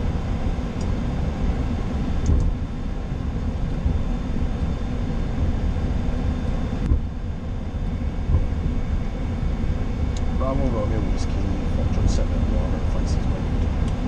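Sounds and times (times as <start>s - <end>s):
aircraft engines idling rumble: 0.0s - 14.0s
faint steady hum: 0.0s - 14.0s.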